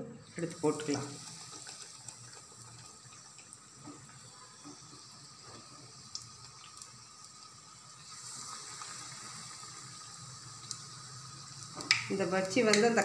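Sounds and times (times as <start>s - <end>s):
batter sizzling in hot oil: 0.0s - 13.0s
oil popping: 0.4s - 13.0s.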